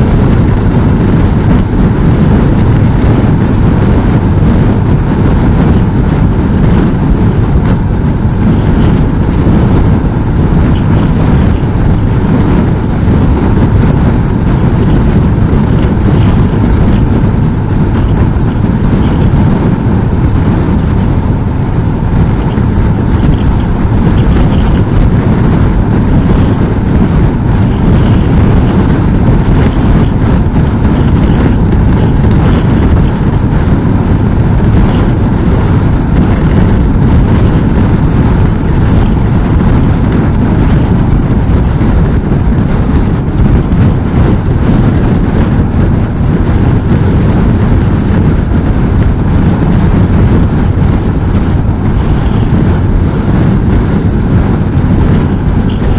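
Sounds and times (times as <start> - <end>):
motorcycle engine running: 0.0 - 55.9
road noise: 0.0 - 55.9
wind rushing on microphone: 0.0 - 55.9.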